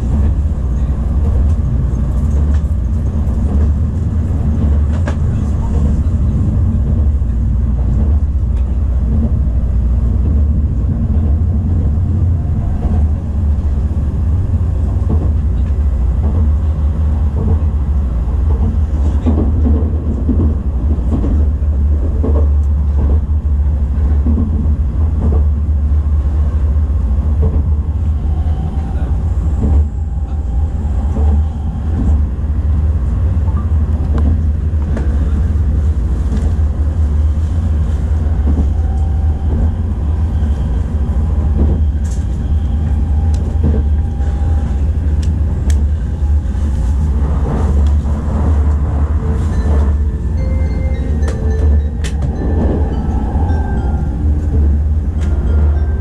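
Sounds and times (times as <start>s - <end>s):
train running low rumble: 0.0s - 56.0s.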